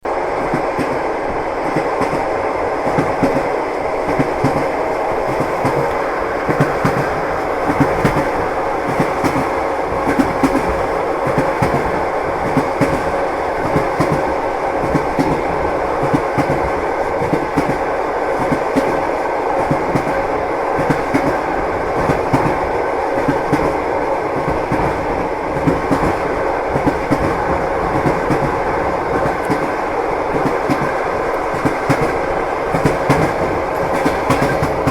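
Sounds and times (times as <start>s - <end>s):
train rumble: 0.0s - 34.9s
wheels clacking over rail joints: 4.1s - 34.9s.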